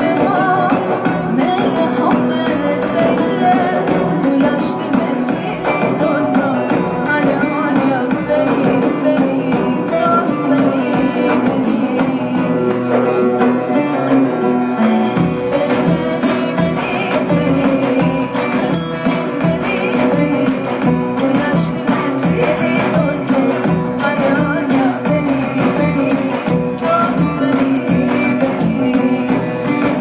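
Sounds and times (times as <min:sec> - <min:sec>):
hand percussion beat: 0:00.0 - 0:30.0
woman singing: 0:00.0 - 0:30.0.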